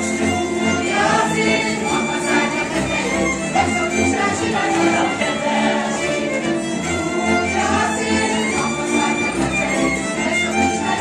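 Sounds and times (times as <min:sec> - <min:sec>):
fiddle folk dance music: 0:00.0 - 0:11.0.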